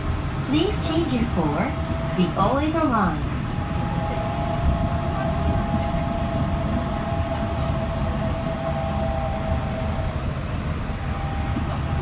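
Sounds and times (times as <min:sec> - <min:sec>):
train rumbling: 0:00.0 - 0:12.0
train whine: 0:00.0 - 0:12.0.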